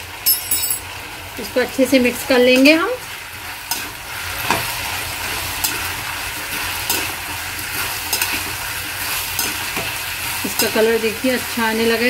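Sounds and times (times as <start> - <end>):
vegetables sizzling in hot oil: 0.8 - 12.0.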